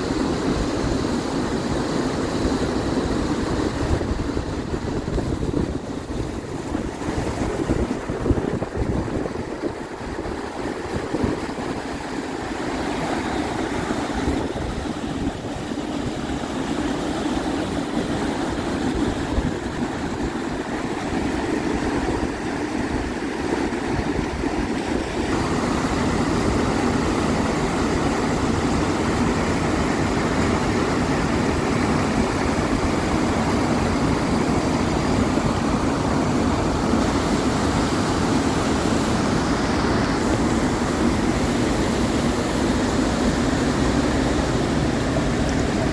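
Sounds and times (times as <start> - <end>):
rushing rapids and waterfall: 0.0 - 45.9.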